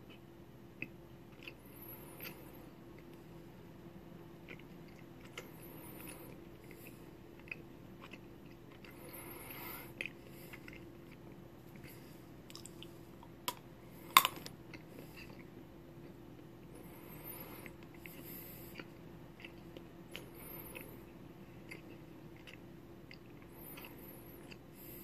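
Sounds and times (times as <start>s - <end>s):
chewing a wax crayon: 0.0s - 3.4s, 4.2s - 25.0s.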